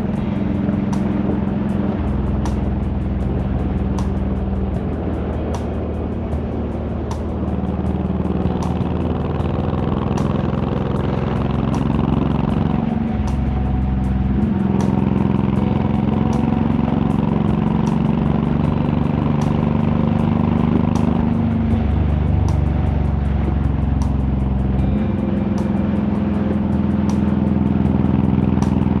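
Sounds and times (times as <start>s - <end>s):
motorcycle engine and exhaust: 0.0s - 29.0s.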